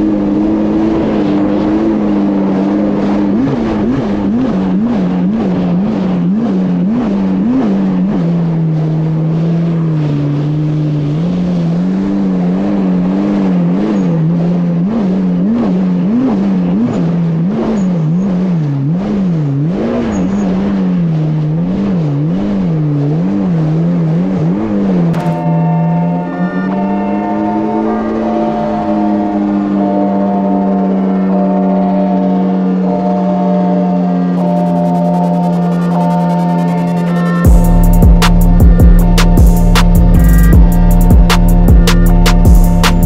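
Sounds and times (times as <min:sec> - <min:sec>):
jet ski engine running: 0:00.0 - 0:43.0
rushing water: 0:00.0 - 0:43.0.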